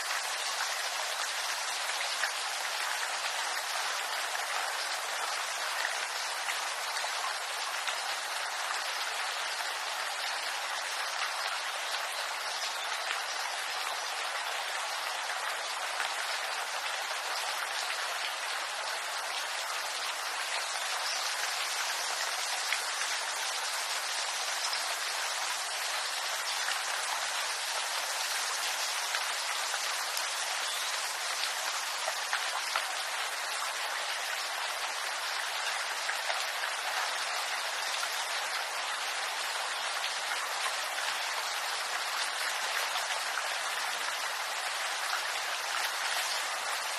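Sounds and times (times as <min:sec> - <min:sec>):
rain on leaves: 0:00.0 - 0:46.9.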